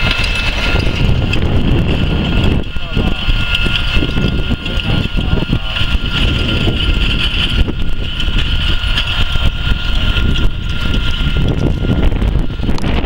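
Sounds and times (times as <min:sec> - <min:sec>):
steady high whine: 0:00.0 - 0:13.0
tractor engine rumbling: 0:00.0 - 0:13.0
wind buffeting microphone: 0:00.0 - 0:13.0.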